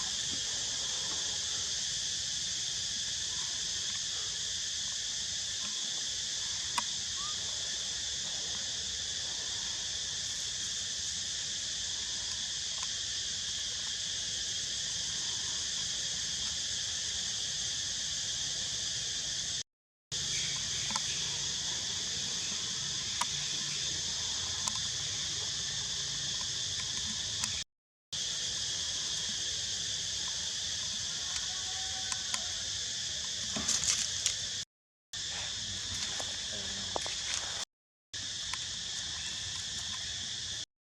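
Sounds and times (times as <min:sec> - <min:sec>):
insect chorus: 0:00.0 - 0:27.6, 0:28.2 - 0:40.7.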